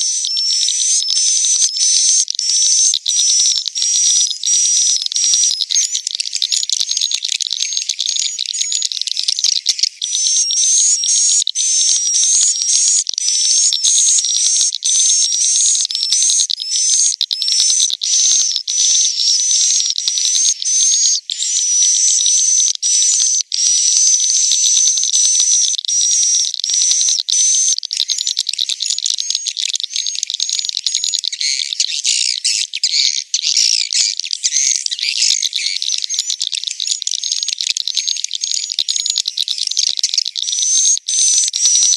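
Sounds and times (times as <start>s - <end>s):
swiftlets twittering: 0.0s - 6.1s, 9.4s - 31.5s, 34.4s - 41.9s.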